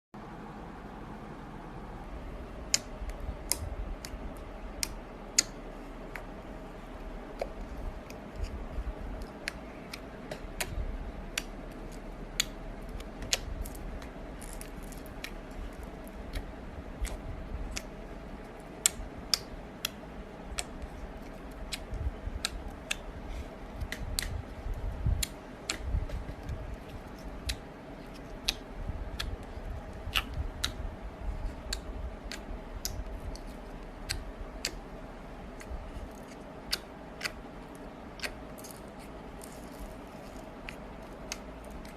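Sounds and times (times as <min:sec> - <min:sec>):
faint steady hum: 0:00.2 - 0:41.9
low soft rumble: 0:00.2 - 0:41.9.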